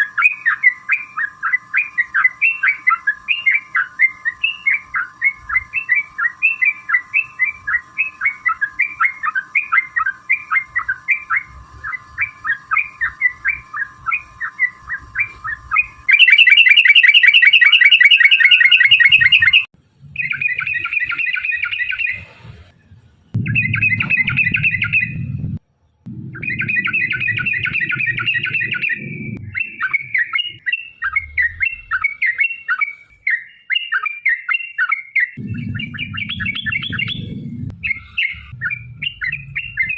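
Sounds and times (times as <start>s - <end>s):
bird chirping phrases: 0.0s - 22.3s, 23.4s - 25.3s, 25.9s - 39.9s
dense bird chattering: 0.0s - 22.3s, 26.4s - 39.9s
fast rolling bird trill: 0.0s - 22.3s, 26.4s - 39.9s.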